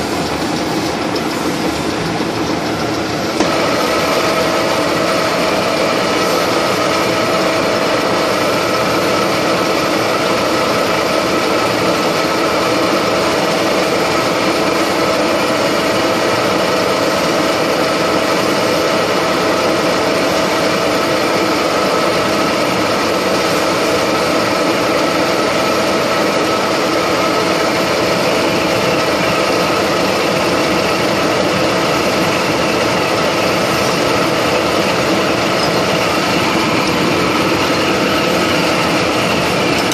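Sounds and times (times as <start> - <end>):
milling machine whining: 0.0 - 39.9.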